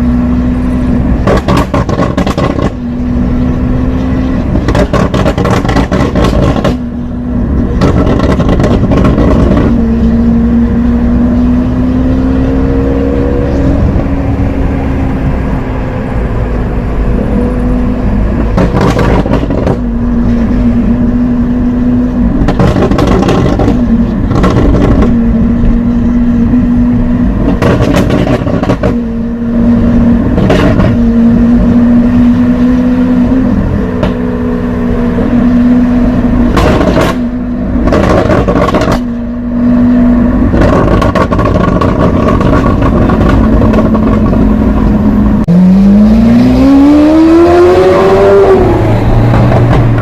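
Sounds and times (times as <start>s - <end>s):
sports car engine revving: 0.0s - 50.0s.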